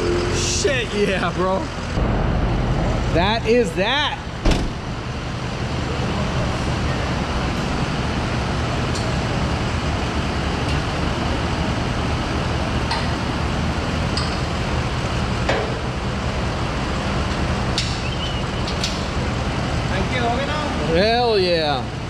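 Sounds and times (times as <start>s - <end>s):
low hum: 0.0s - 19.9s.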